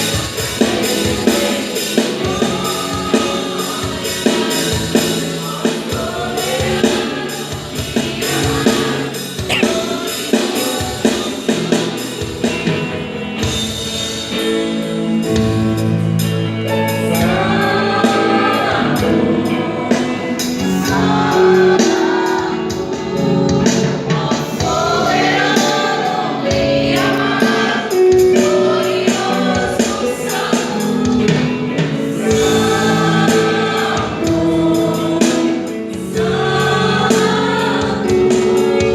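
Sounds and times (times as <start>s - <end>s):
band with drum kit: 0.0s - 38.9s
gospel vocal group singing: 0.0s - 38.9s.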